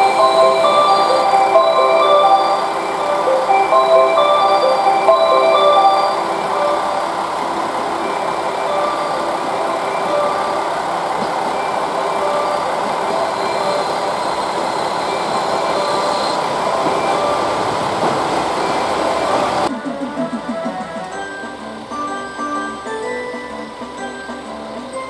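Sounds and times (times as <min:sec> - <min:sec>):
diesel railcar running past: 0:00.0 - 0:25.0
train wheels on rails: 0:00.0 - 0:25.0.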